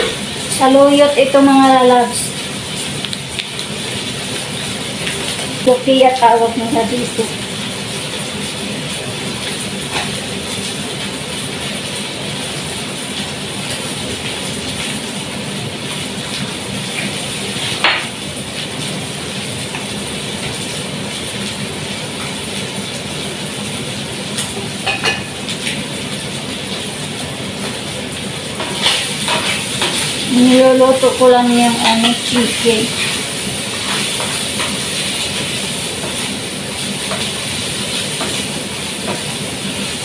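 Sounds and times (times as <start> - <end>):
chicken sizzling in a frying pan: 0.0 - 40.0.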